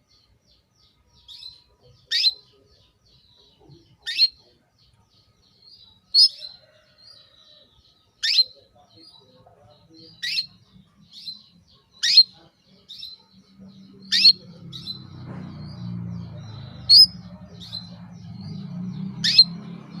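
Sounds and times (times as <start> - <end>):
canary chirps: 0.0 - 20.0
soft bird tweets: 0.0 - 20.0.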